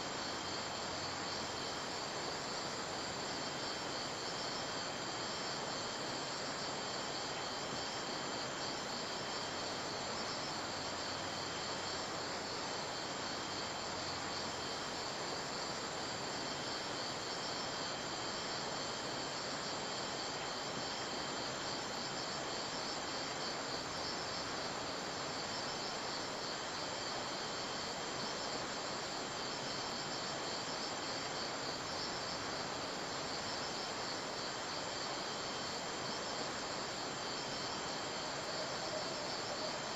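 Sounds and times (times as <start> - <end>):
high-pitched insect chorus: 0.0 - 39.9
steady hiss: 0.0 - 39.9.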